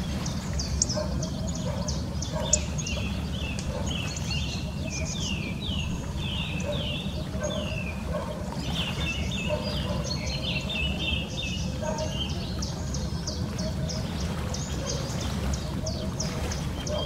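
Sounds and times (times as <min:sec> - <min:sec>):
wild birds chirping and whistling: 0:00.0 - 0:17.0.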